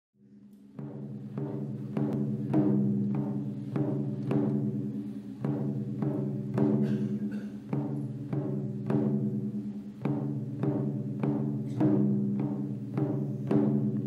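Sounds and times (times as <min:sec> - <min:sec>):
taiko drums struck: 0:00.7 - 0:14.0.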